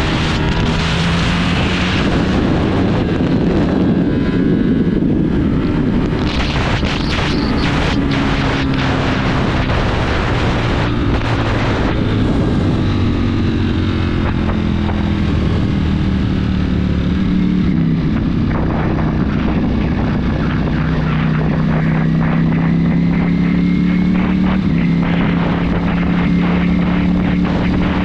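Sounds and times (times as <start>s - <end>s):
steady rush of noise: 0.0s - 28.0s.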